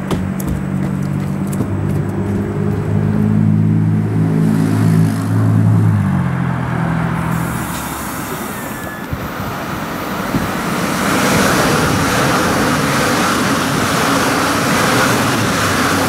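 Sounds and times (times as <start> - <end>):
passenger train rolling past: 0.6 - 16.0.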